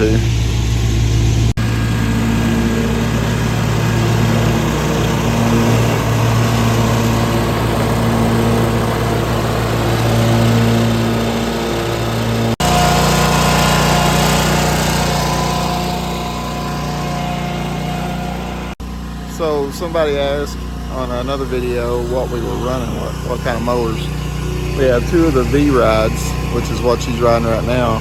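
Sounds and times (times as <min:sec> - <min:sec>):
mower engine running: 0:00.0 - 0:28.0.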